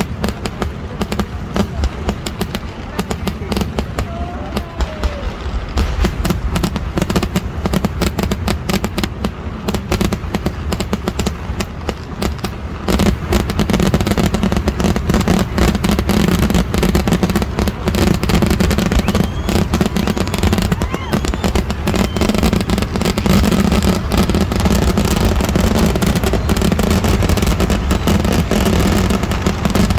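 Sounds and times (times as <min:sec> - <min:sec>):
firecracker blasts: 0:00.0 - 0:29.9.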